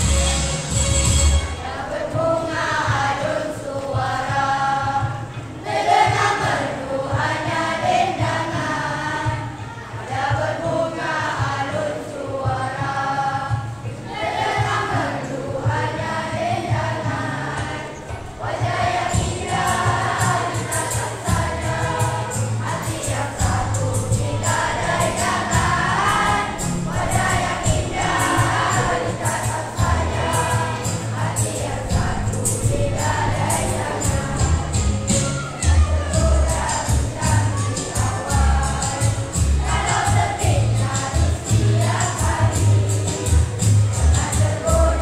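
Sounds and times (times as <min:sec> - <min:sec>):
backing music with low beat: 0:00.0 - 0:45.0
children's choir singing: 0:00.0 - 0:45.0.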